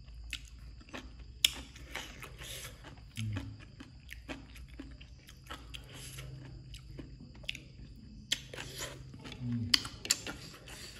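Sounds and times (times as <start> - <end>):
low steady hum: 0.0 - 10.9
person chewing: 0.0 - 10.9.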